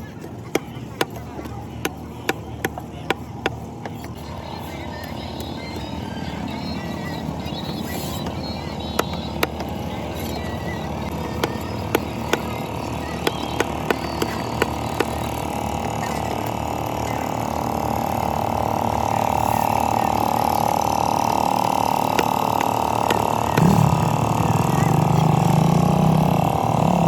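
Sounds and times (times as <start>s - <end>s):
engine-like hum: 0.0s - 27.0s.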